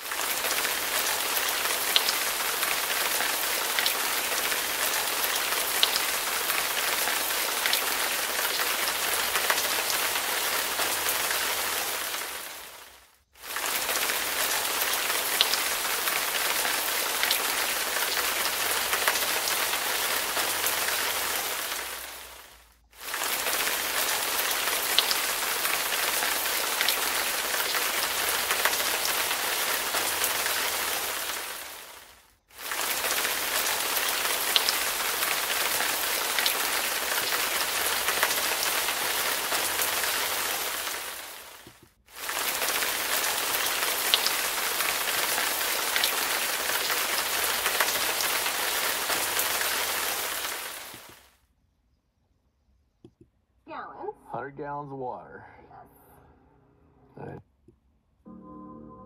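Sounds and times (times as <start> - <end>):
rain falling steadily: 0.0 - 51.4.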